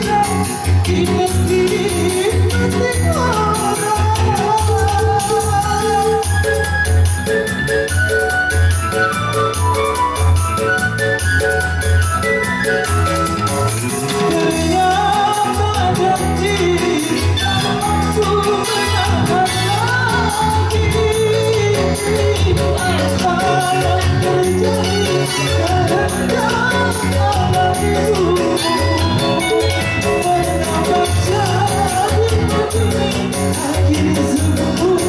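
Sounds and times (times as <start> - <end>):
person singing: 0.0 - 8.3, 13.9 - 35.0
upbeat backing music with bass beat: 0.0 - 35.0.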